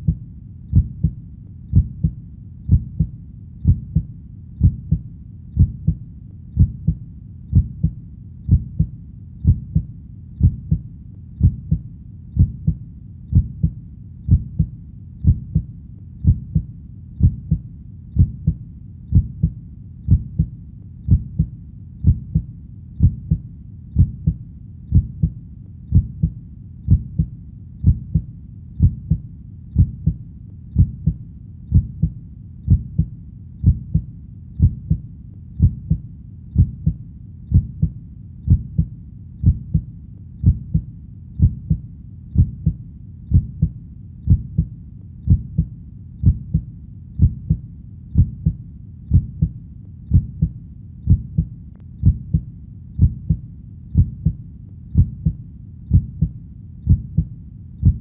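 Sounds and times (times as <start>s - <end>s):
heartbeat thumps: 0.0s - 6.0s, 6.6s - 35.0s, 35.6s - 58.0s
low steady hum: 0.0s - 58.0s.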